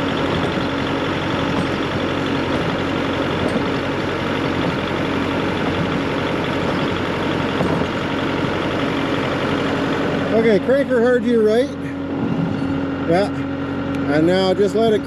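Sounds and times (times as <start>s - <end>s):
diesel engine running: 0.0s - 15.0s
steady hum: 0.0s - 15.0s.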